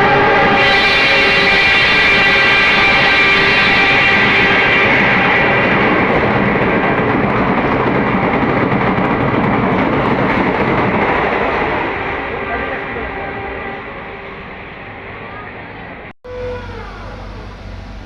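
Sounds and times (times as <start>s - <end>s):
diesel train passing at speed: 0.0s - 18.0s
train rumbling on rails: 0.0s - 18.0s.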